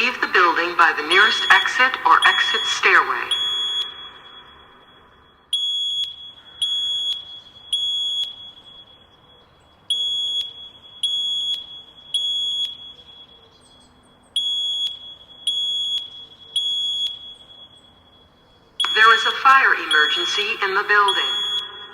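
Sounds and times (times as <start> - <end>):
fire alarm beeps: 0.0 - 21.9.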